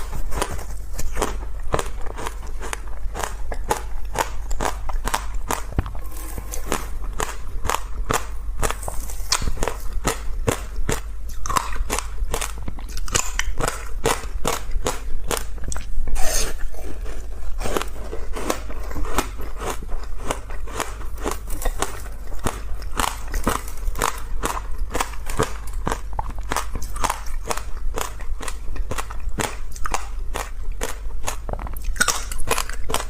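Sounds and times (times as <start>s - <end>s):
ice being chewed: 0.0s - 33.0s.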